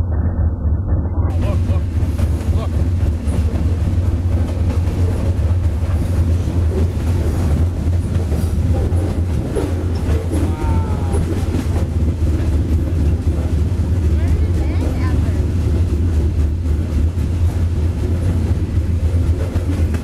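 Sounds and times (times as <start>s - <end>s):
freight train rumbling: 0.0s - 20.0s
train cars rattling and clicking: 0.1s - 20.0s.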